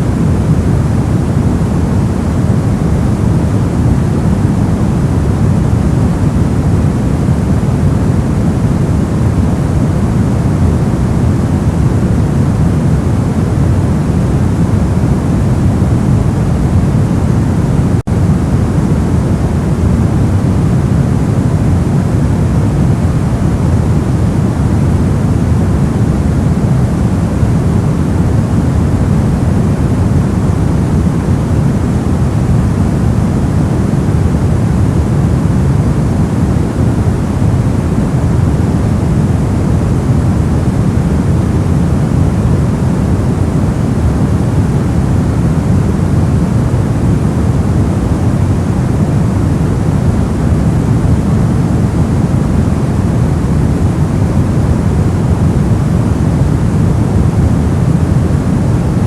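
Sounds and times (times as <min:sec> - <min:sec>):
deep white noise hiss: 0:00.0 - 0:59.0.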